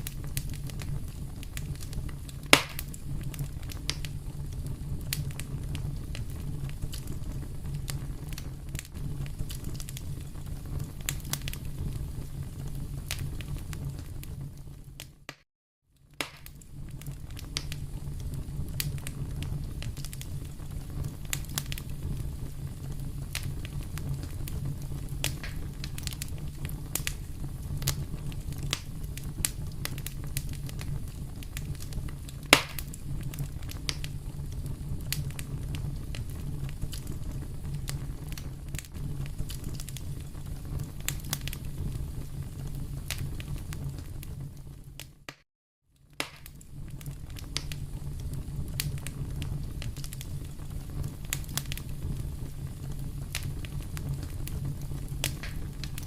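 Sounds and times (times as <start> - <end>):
fire popping: 0.0 - 15.4, 16.0 - 45.4, 46.0 - 56.0
flames rumbling: 0.0 - 15.4, 16.0 - 45.4, 46.0 - 56.0
wood fire crackling: 0.0 - 15.4, 16.0 - 45.4, 46.0 - 56.0.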